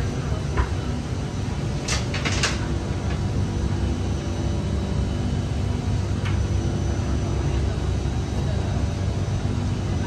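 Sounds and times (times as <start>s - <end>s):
train carriage rumble: 0.0s - 10.0s.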